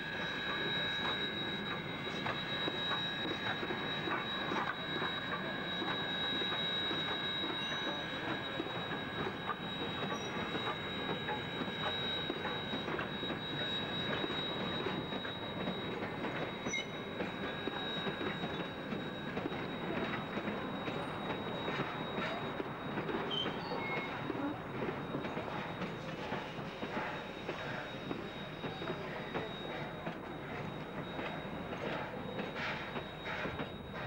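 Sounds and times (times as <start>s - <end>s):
high-pitched wheel squeal: 0.0s - 34.0s.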